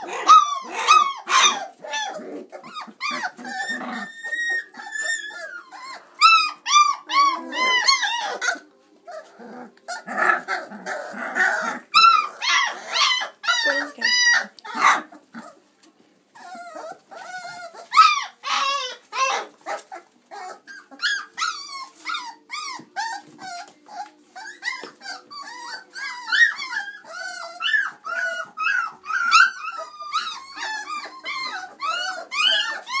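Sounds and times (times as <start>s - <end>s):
puppies whining and yipping: 0.0s - 33.0s.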